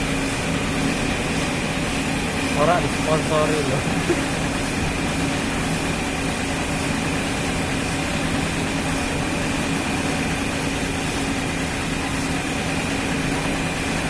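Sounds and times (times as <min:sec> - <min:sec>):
motor humming steadily: 0:00.0 - 0:14.0.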